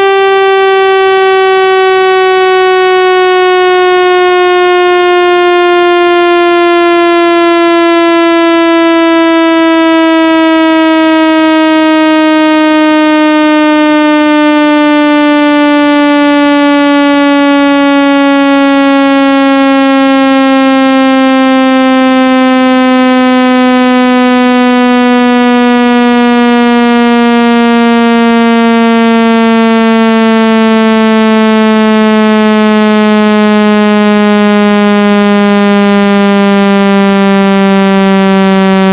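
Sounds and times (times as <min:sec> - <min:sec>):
buzzy tone sliding downward: 0:00.0 - 0:38.9.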